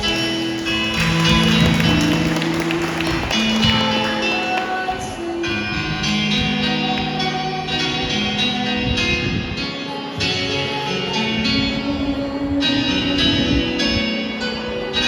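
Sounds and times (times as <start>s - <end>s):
guitar-accompanied serenade: 0.0s - 15.0s.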